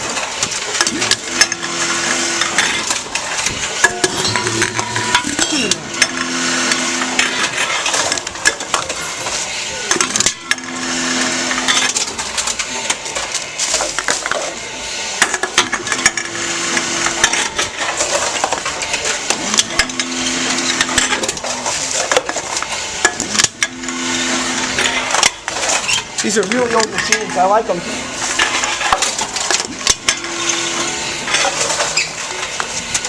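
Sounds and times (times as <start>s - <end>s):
cans and bottles clattering: 0.0s - 33.0s.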